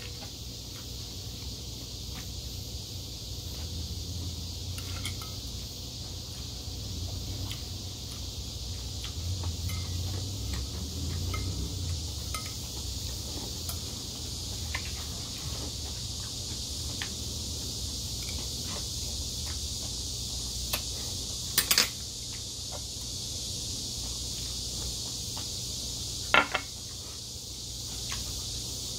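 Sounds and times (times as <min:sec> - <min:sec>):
steady high hiss: 0:00.0 - 0:28.9.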